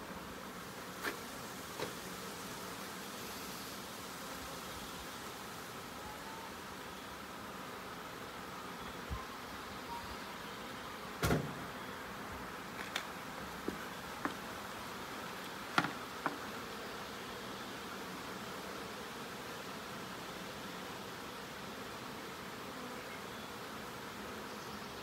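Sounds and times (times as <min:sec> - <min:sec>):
bee swarm buzzing: 0:00.0 - 0:25.0.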